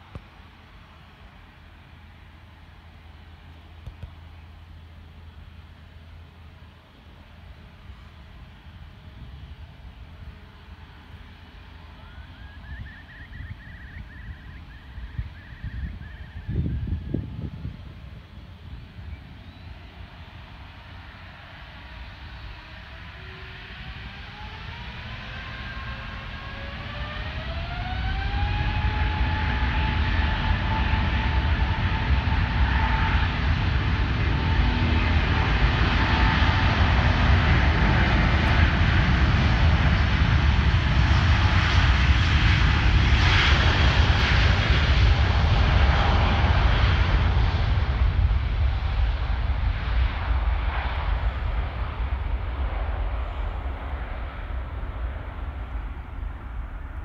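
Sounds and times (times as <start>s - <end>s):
jet engines rising whine: 0.0s - 57.0s
jet rumble and hiss: 0.0s - 57.0s.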